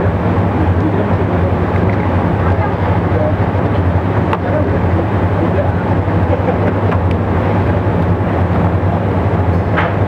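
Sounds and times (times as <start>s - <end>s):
steady loud hum: 0.0s - 10.0s.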